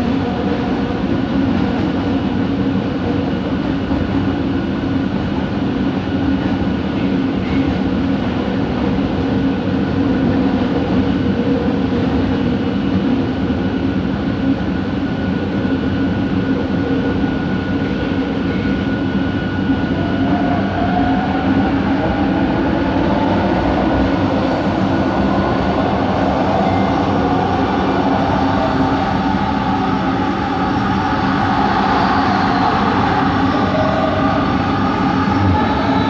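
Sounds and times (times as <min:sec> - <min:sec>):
train rolling noise: 0:00.0 - 0:36.0
motor drive whine: 0:00.1 - 0:36.0.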